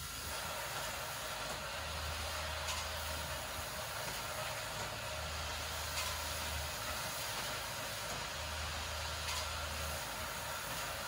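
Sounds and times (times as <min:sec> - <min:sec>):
steady machine hiss: 0:00.0 - 0:11.0.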